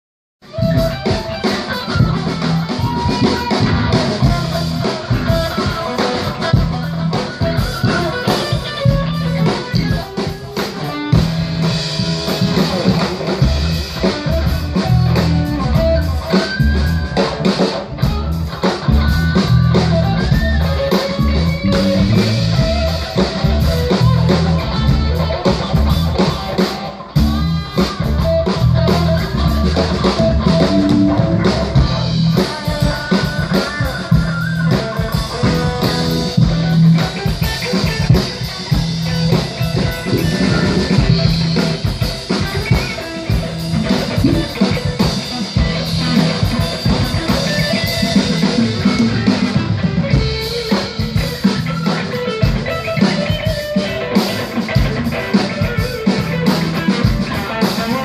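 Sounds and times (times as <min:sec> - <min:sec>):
drum kit: 0:00.4 - 0:58.0
electric bass: 0:00.4 - 0:58.0
electric guitar: 0:00.4 - 0:58.0.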